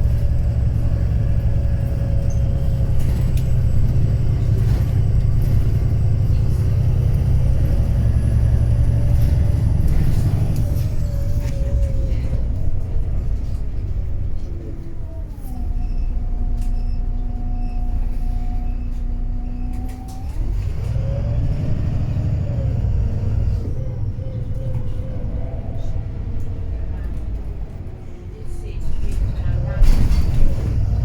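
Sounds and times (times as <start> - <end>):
bus engine heavy rumble: 0.0 - 31.0.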